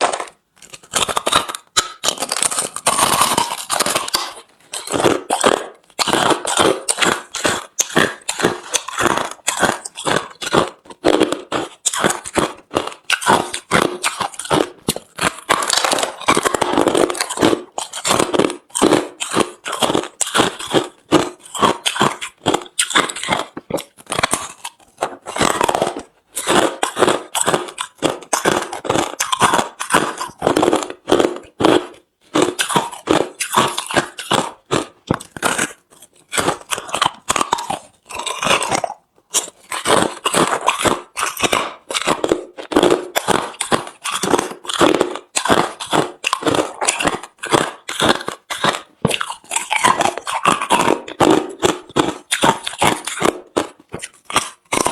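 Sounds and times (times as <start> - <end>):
crunching ice between teeth: 0.0 - 54.9.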